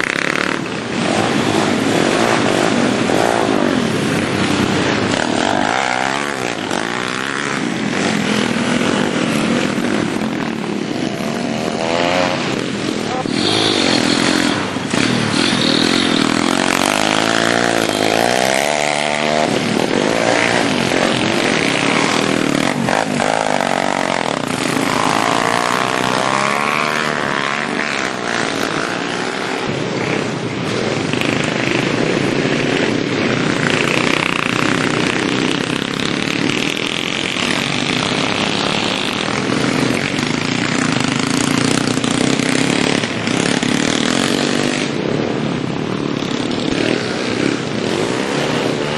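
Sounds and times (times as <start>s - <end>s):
minibike engines revving: 0.0s - 48.9s.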